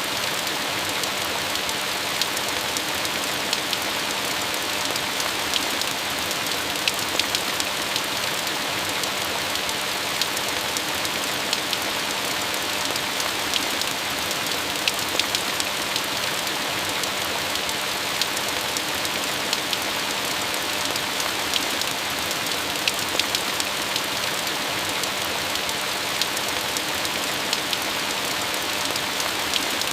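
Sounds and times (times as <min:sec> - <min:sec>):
steady rain: 0:00.0 - 0:29.9.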